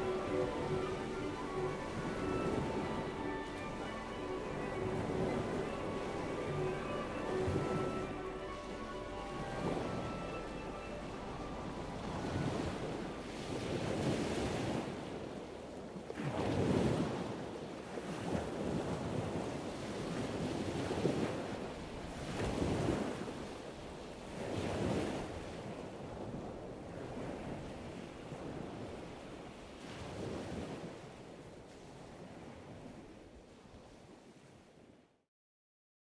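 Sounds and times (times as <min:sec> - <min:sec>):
wind buffeting microphone: 0:00.0 - 0:33.2
waves washing up a beach: 0:00.0 - 0:35.1.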